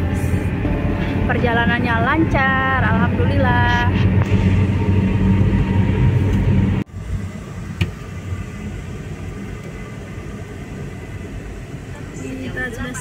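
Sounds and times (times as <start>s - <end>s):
car cabin road and engine hum: 0.0s - 13.0s.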